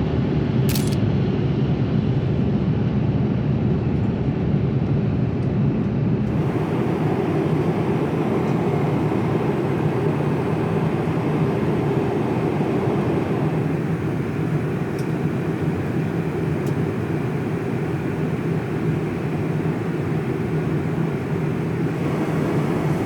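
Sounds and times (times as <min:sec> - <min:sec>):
jet engine and airflow noise: 0:00.0 - 0:23.0.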